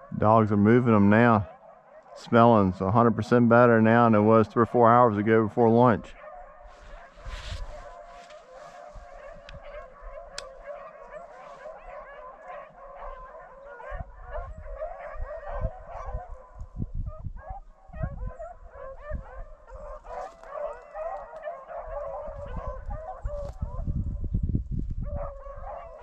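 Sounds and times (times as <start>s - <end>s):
hounds baying and yelping: 0.0s - 5.0s, 5.9s - 24.2s, 25.0s - 26.0s.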